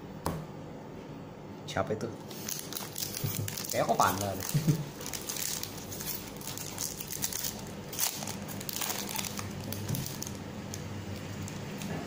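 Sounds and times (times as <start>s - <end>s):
foil wrapper crinkling: 2.3s - 12.0s.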